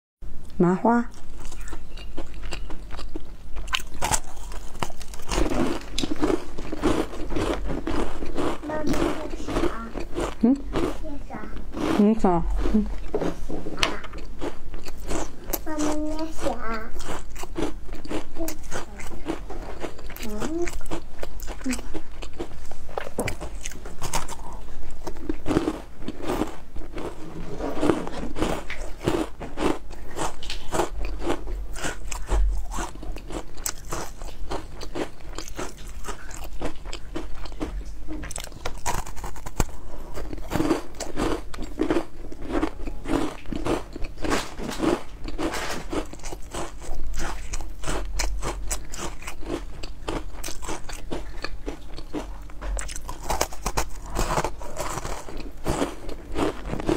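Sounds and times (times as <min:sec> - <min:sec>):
person chewing crunchy food: 0:01.1 - 0:56.9.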